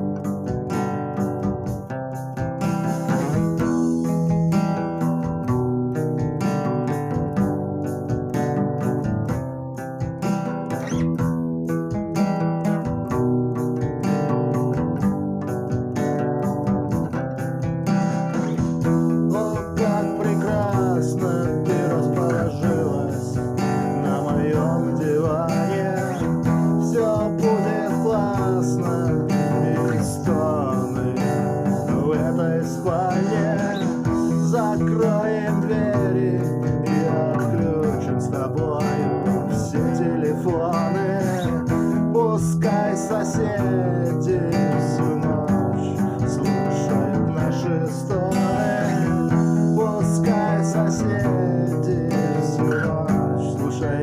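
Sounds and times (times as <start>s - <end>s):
acoustic guitar song: 0.0s - 54.0s.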